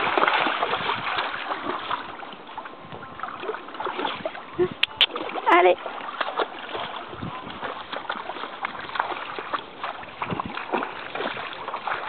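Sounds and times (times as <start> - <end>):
river water rushing: 0.0 - 2.7, 3.3 - 12.0
water splashing: 0.0 - 12.0.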